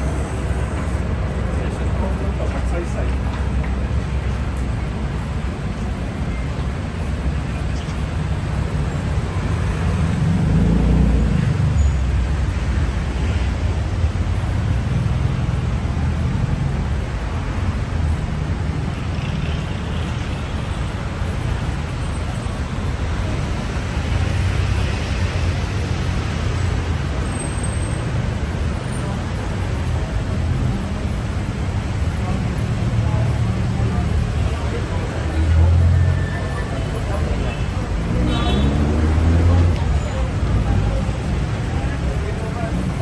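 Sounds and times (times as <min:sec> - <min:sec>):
passing vehicle engines: 0:00.0 - 0:43.0.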